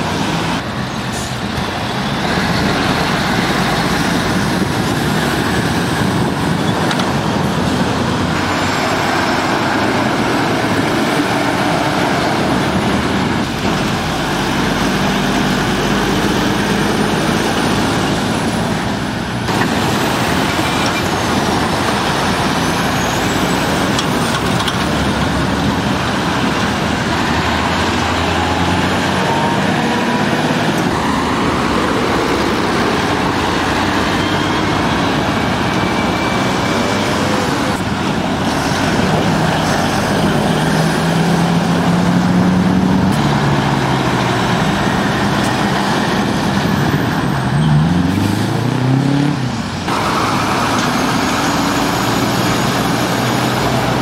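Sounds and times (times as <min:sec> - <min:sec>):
heavy traffic noise: 0:00.0 - 0:54.0
lorry engine revving: 0:01.5 - 0:54.0.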